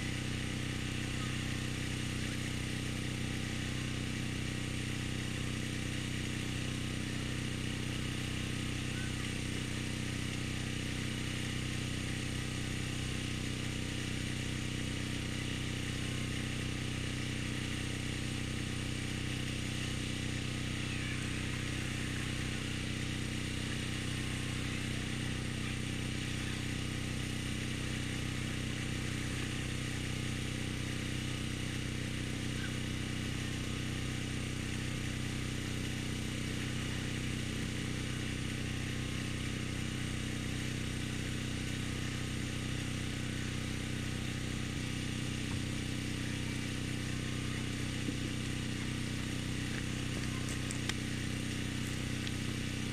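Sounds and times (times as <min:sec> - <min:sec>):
small engine running: 0:00.0 - 0:52.9.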